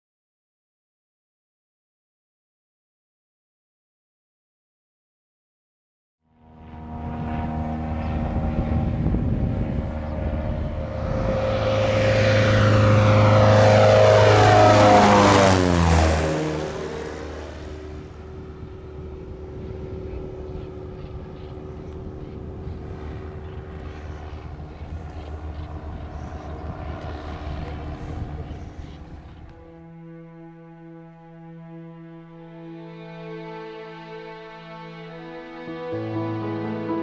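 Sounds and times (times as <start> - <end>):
propeller plane passing overhead: 6.2 - 37.0.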